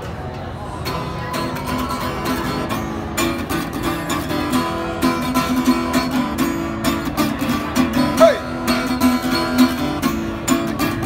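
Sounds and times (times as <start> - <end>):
acoustic guitar strumming: 0.2 - 11.0.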